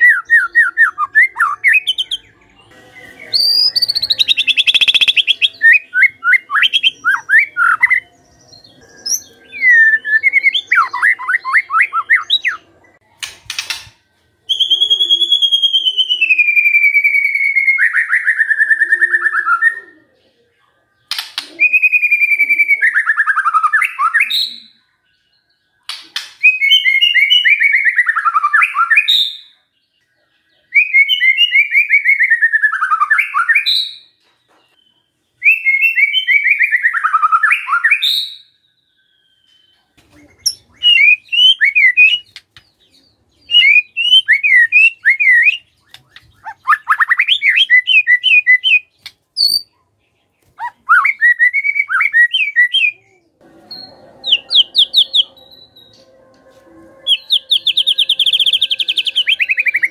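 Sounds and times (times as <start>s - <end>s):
high bird chirps: 0.0s - 20.2s, 20.9s - 59.9s
bird singing trills: 0.0s - 59.9s.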